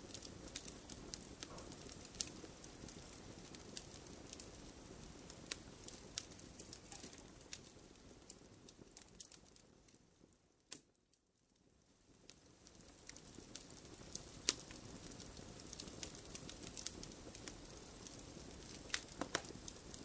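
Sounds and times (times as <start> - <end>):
log fire crackling: 0.0 - 20.0.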